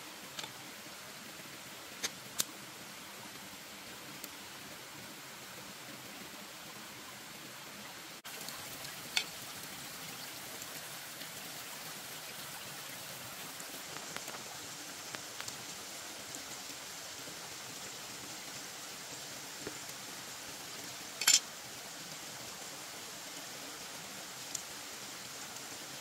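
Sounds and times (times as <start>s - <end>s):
rain patter: 0.0s - 26.0s.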